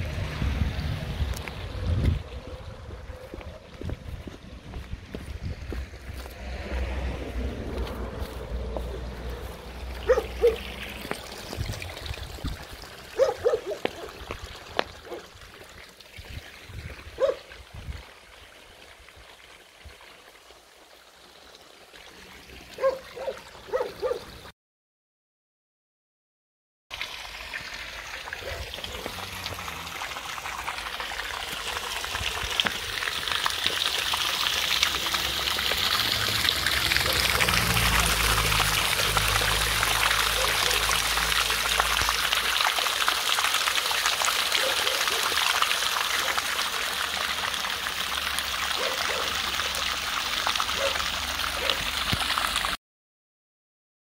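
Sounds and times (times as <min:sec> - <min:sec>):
fountain water splashing: 0:00.0 - 0:24.5, 0:26.9 - 0:52.8.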